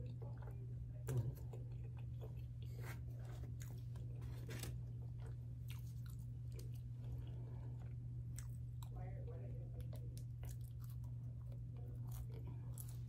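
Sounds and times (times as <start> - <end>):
person chewing crunchy bread: 0.0 - 9.0, 9.8 - 13.0
steady low hum: 0.0 - 13.0.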